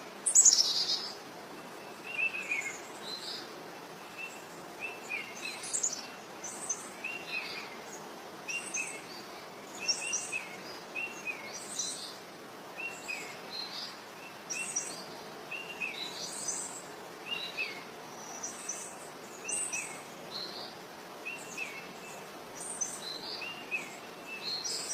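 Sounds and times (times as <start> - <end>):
birds chirping: 0.0 - 24.9
steady background hiss: 0.0 - 24.9.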